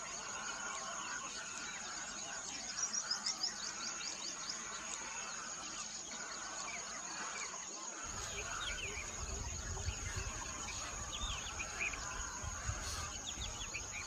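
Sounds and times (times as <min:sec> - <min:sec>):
birds calling and singing: 0:00.0 - 0:14.0.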